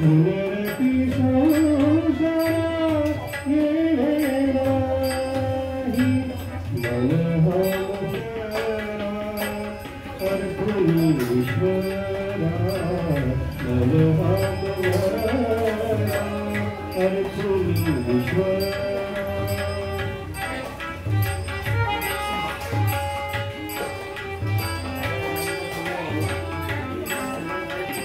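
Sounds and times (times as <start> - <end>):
harmonium: 0.0 - 28.0
person singing devotional song: 0.0 - 28.0
small hand cymbals: 0.0 - 28.0
tabla drumming: 0.0 - 28.0.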